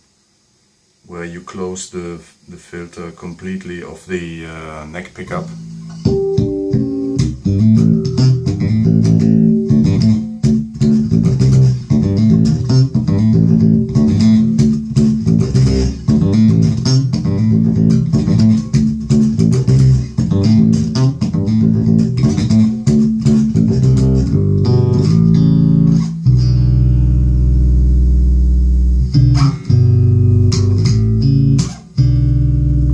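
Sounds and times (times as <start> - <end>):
electric bass plucked notes: 4.9 - 32.9.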